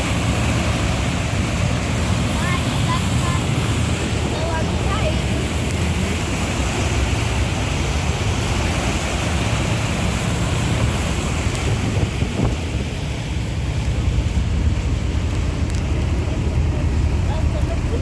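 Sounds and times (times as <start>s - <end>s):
motorboat engine drone: 0.0s - 18.0s
water rushing past hull: 0.0s - 18.0s
wind buffeting microphone: 0.0s - 18.0s.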